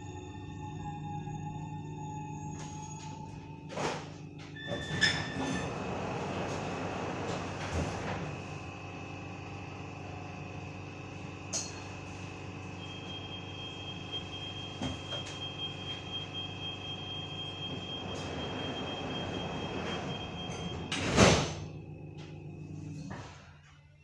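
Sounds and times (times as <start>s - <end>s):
train equipment hum: 0.0s - 23.4s.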